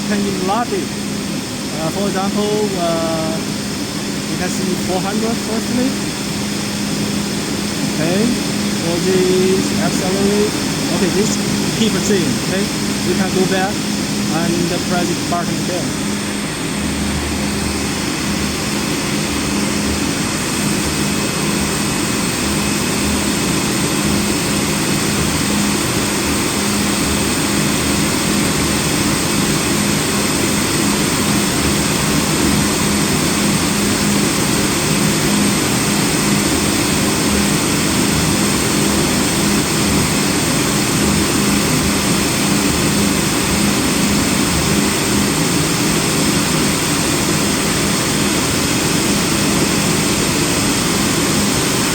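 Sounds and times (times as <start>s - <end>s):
cutting machine drone: 0.0s - 51.9s
steady hum: 0.0s - 51.9s.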